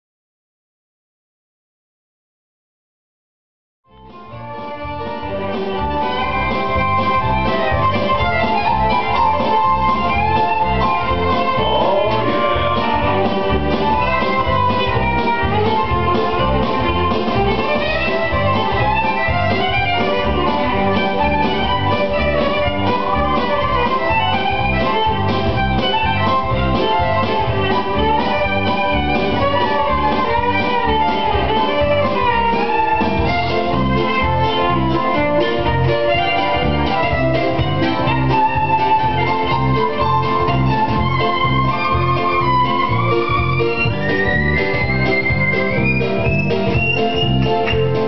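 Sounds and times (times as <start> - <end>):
violin melody: 3.9 - 48.0.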